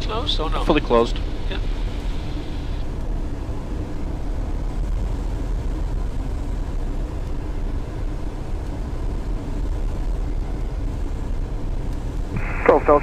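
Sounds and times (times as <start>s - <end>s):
aircraft engine idling: 0.0s - 13.0s.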